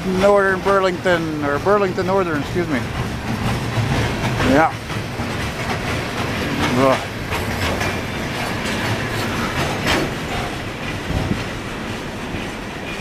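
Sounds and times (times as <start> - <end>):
steel wheels rumbling on rail: 0.0 - 13.0
wheels clacking over rail joints: 0.0 - 13.0.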